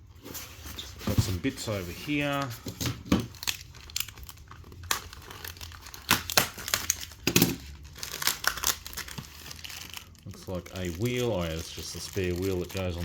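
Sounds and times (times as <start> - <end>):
packaging crinkling: 0.2 - 13.0.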